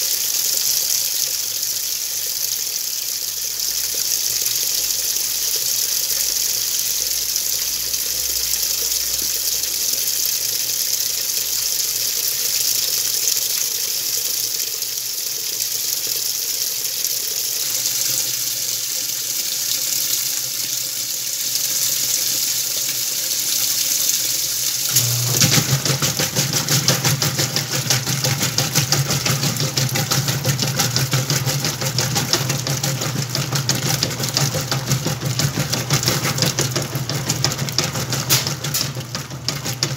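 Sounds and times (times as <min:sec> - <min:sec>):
water running into tub: 0:00.0 - 0:39.9
washing machine motor humming: 0:01.3 - 0:39.9.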